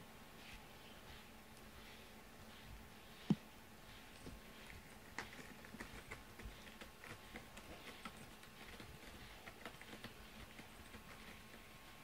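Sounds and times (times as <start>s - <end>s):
brush scratching through fur: 0.4s - 11.7s.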